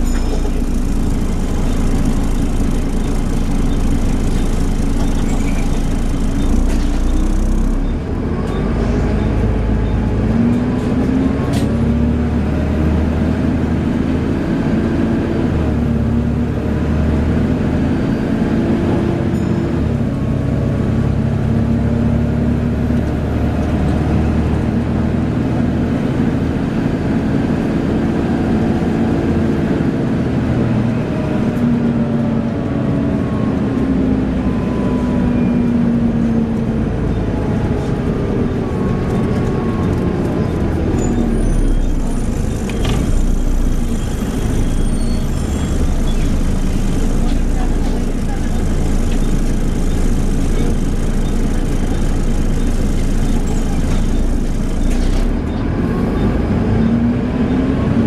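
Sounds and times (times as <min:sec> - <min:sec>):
bus diesel engine pulling: 0:00.0 - 0:58.0.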